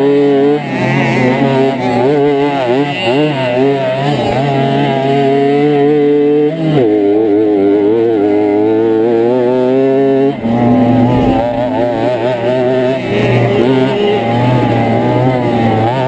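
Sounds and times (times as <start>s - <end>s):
moped engine running hard: 0.0s - 16.0s.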